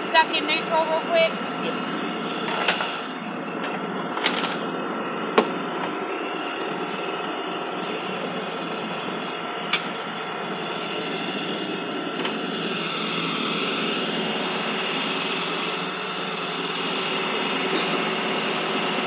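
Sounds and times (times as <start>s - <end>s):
steady whine: 0.0s - 19.0s
vehicle engine running: 0.0s - 19.0s.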